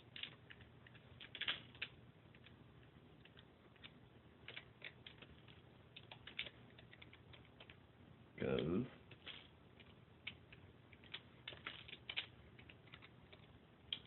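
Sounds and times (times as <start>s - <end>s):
faint keyboard typing: 0.0s - 7.8s, 8.5s - 14.0s.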